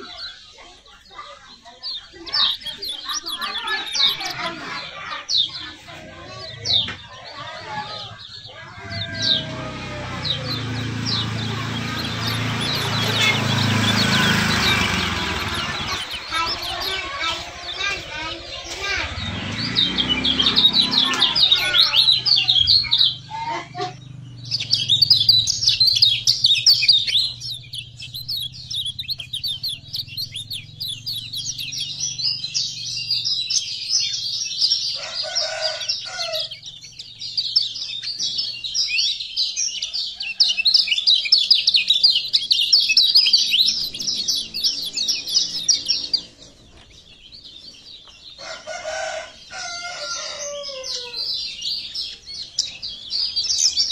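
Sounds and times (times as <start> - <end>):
bird twittering song: 0.0 - 53.9.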